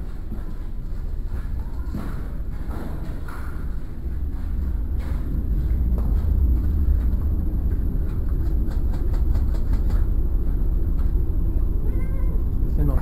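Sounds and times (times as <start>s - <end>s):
low rumble on microphone: 0.0s - 13.0s.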